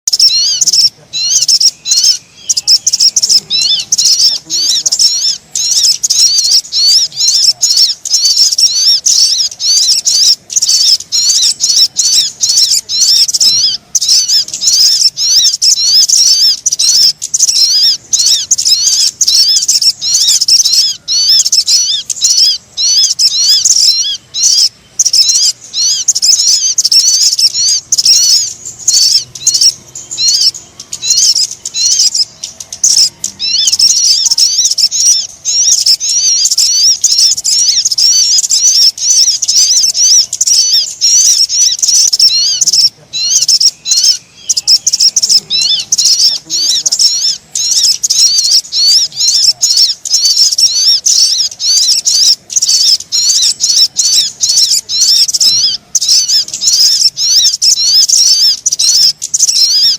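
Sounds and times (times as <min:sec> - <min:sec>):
high-pitched bird chirping: 0:00.0 - 0:59.9.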